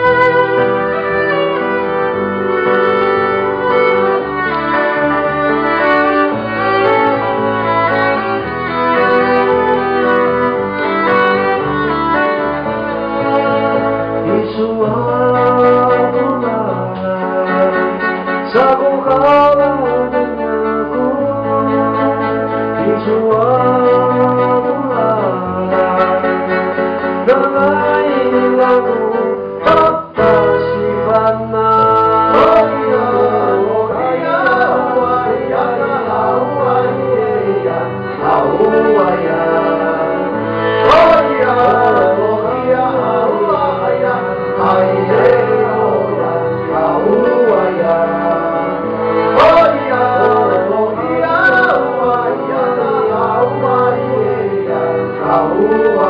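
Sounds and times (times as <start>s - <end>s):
cello: 0.0s - 56.0s
man singing: 0.0s - 56.0s
violin: 0.0s - 56.0s.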